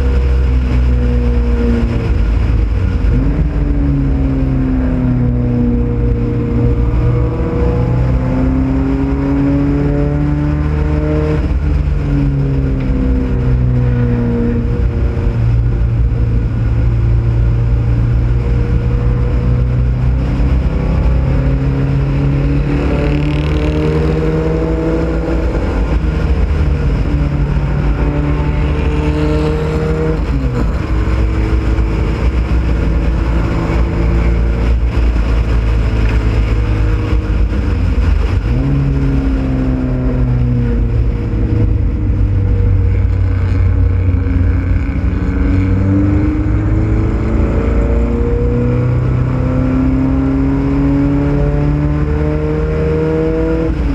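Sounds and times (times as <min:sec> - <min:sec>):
race car engine accelerating: 0:00.0 - 0:53.9
wind and road noise: 0:00.0 - 0:53.9.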